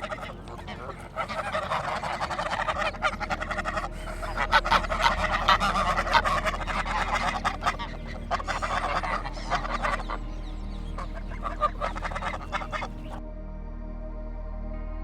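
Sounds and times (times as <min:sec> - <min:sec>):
waterfowl flock calling: 0:00.0 - 0:13.2.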